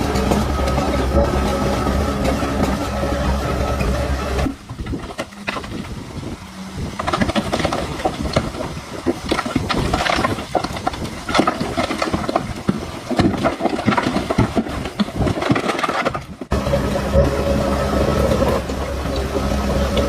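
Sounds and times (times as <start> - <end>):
tracks and soil clattering: 0.0 - 17.2
bulldozer diesel engine: 0.0 - 20.0.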